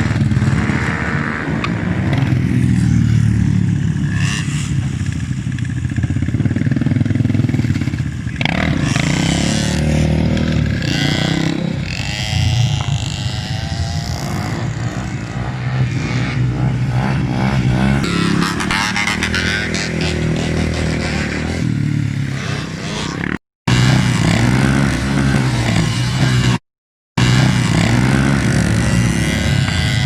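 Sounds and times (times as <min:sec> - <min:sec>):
motorcycle engines revving: 0:00.0 - 0:26.6, 0:27.2 - 0:30.0.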